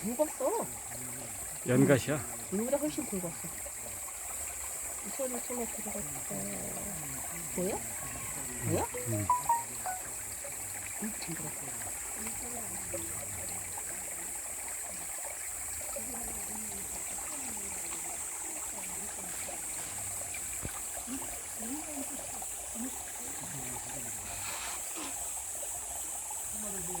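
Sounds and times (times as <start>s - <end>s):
stream water flowing over rocks: 0.0s - 27.0s.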